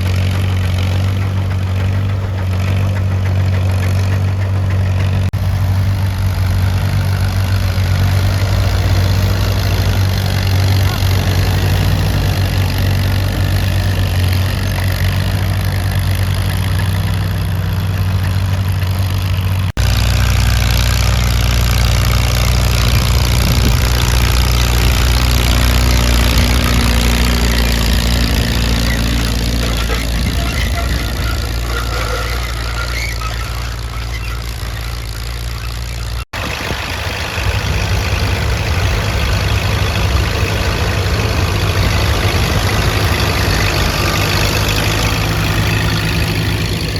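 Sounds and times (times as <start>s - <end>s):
tractor engine droning: 0.0s - 46.9s.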